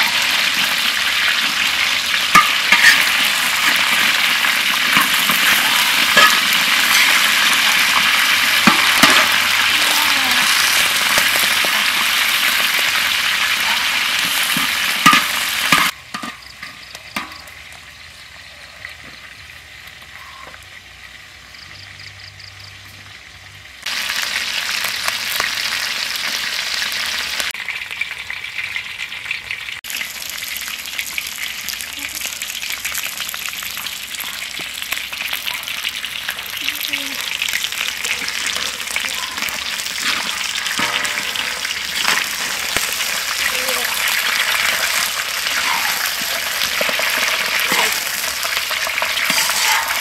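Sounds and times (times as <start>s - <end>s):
fish frying in oil: 0.0s - 50.0s.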